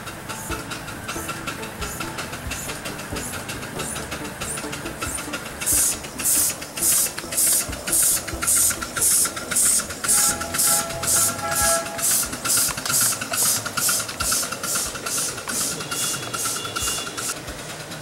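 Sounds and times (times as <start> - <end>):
model steam locomotive chuffing: 0.0 - 18.0.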